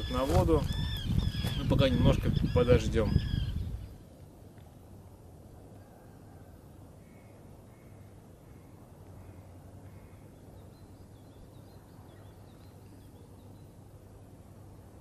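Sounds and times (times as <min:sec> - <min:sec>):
birds twittering: 0:00.0 - 0:04.1, 0:05.8 - 0:14.0
distant bird calls: 0:00.0 - 0:04.3, 0:05.6 - 0:15.0.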